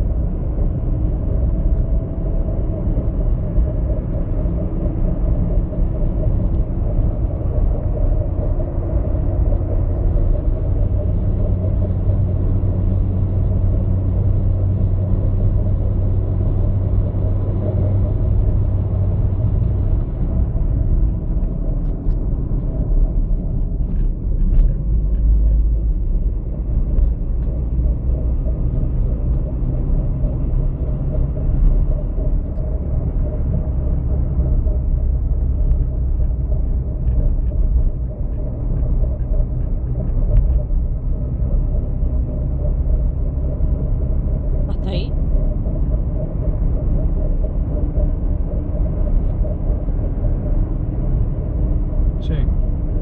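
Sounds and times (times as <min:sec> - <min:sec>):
car engine rumbling: 0:00.0 - 0:53.0
deep hum: 0:00.0 - 0:53.0.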